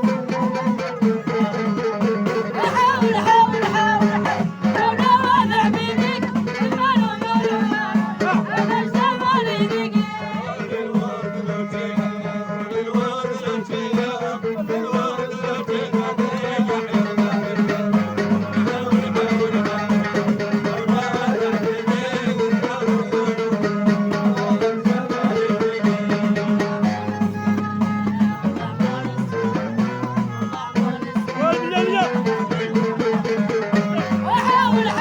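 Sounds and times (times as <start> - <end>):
plucked string instrument: 0.0 - 11.6, 14.2 - 35.0.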